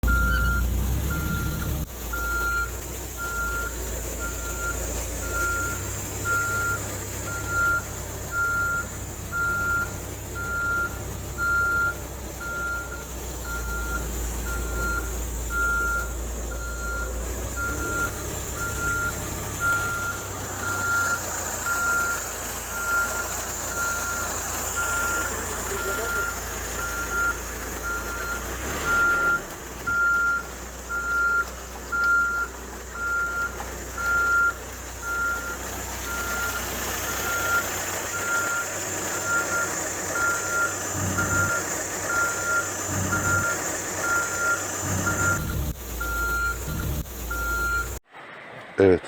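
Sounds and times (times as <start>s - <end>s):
reversing alarm beeping: 0.0s - 48.0s
low engine rumble: 0.0s - 48.9s.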